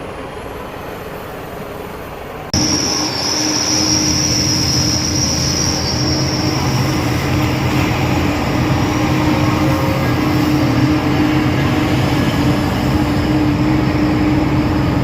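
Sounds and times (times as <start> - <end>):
high whine: 2.6 - 15.0.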